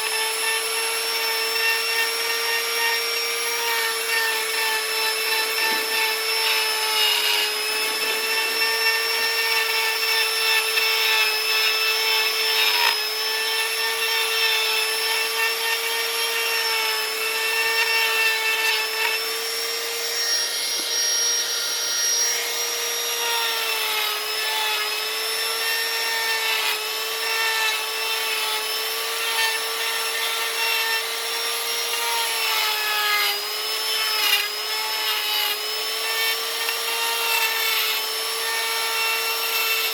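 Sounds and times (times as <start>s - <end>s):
power carving tool whining: 0.0s - 39.9s.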